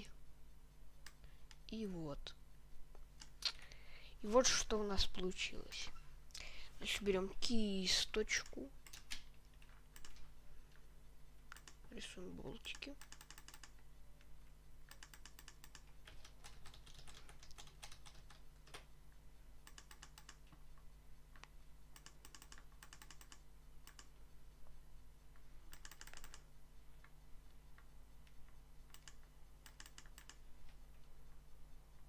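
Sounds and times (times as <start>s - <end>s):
steady low hum: 0.0s - 32.0s
rapid mouse clicking: 0.9s - 5.5s, 7.9s - 10.8s, 11.4s - 19.0s, 19.6s - 32.0s.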